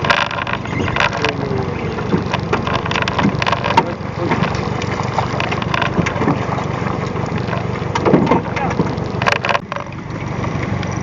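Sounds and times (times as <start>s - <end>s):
boat engine running: 0.0s - 11.0s
wash of noise: 0.0s - 11.0s.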